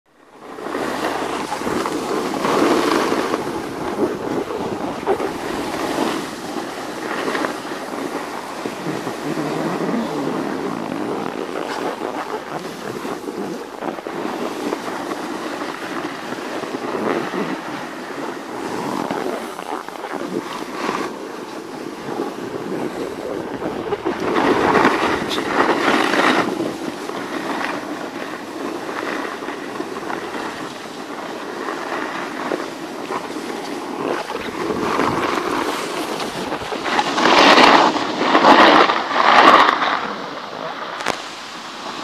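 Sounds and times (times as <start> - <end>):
skis scraping over packed snow: 0.1 - 42.0
wind rushing over microphone: 0.1 - 42.0.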